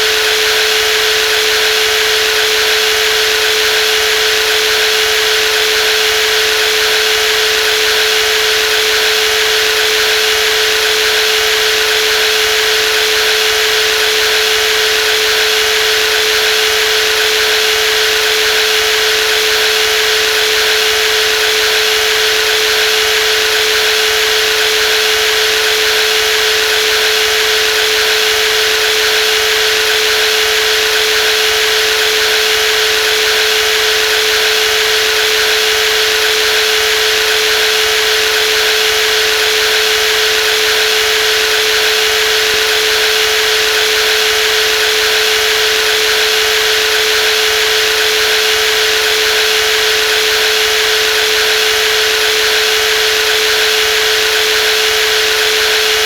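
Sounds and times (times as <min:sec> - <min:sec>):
jigsaw motor whining: 0:00.0 - 0:56.0.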